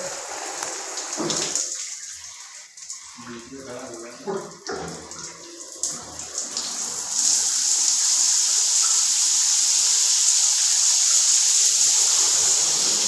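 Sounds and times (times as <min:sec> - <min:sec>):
water spraying from shower: 0:00.0 - 0:13.0.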